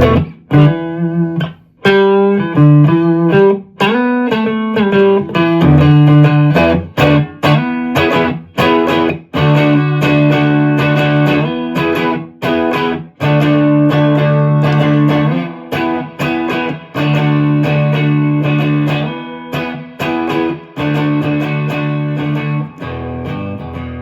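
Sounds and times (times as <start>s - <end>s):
overdriven electric guitar: 0.0s - 24.0s.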